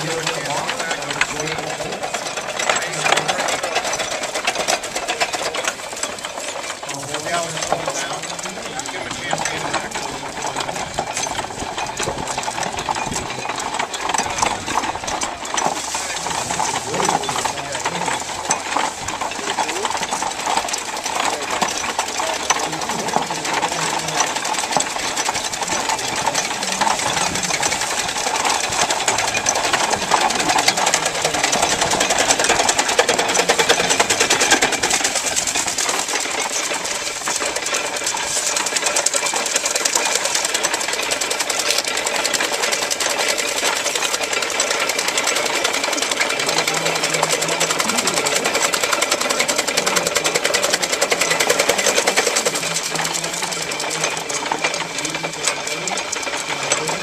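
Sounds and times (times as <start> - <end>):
machinery clattering rapidly: 0.0 - 57.0.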